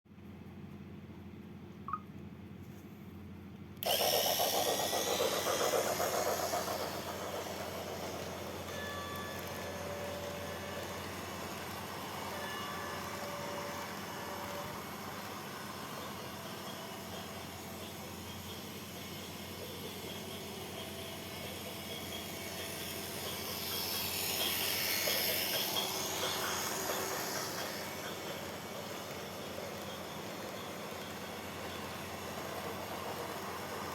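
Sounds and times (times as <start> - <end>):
machine motor whirring rattle: 3.8 - 33.9
train rushing past: 3.8 - 33.9.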